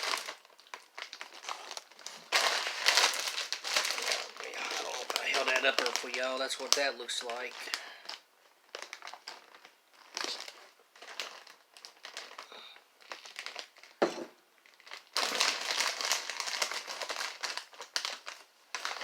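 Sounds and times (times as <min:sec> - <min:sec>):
plastic chip bag crinkling: 0:00.0 - 0:19.0.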